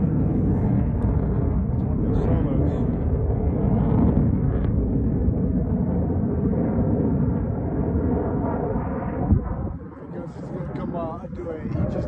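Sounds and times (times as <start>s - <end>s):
fighter jet engines roaring: 0.0s - 12.0s.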